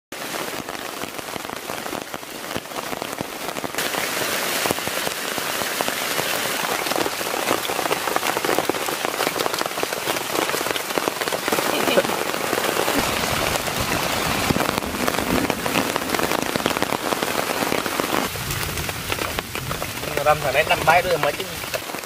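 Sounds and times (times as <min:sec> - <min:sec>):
rain on tent fabric and leaves: 0:00.1 - 0:22.0.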